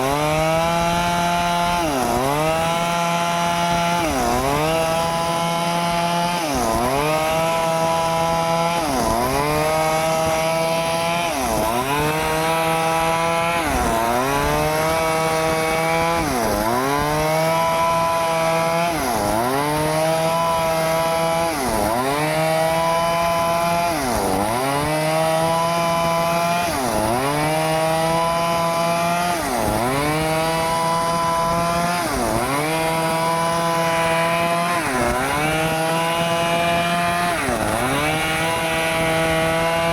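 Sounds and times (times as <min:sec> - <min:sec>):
chainsaw engine running hard: 0:00.0 - 0:39.9.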